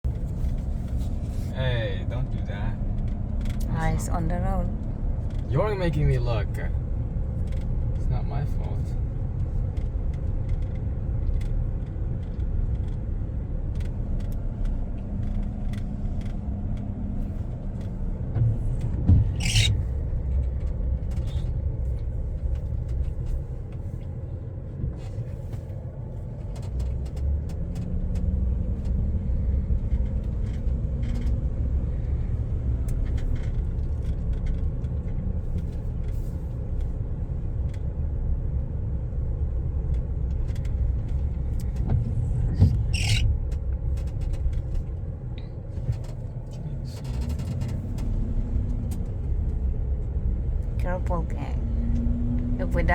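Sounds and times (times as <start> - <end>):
truck engine and road rumble: 0.0 - 52.9.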